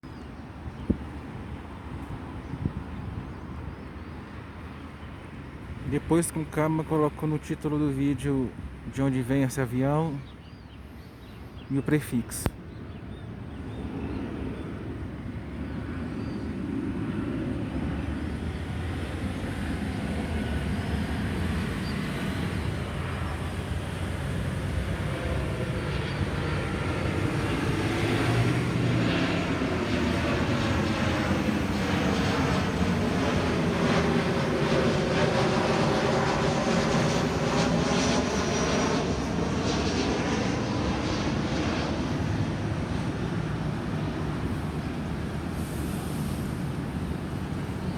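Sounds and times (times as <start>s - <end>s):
jet airliner engine roar: 0.0s - 47.9s.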